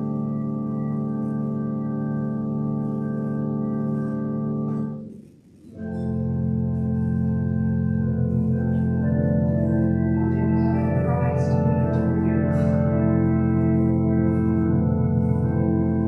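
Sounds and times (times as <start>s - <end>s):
organ playing slow chords: 0.0s - 16.0s.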